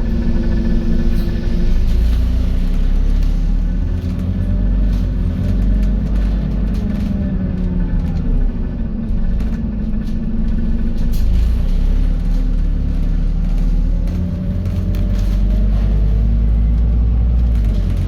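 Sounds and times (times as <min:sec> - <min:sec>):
bus engine rumble: 0:00.0 - 0:18.0
drivetrain whine: 0:00.0 - 0:18.0.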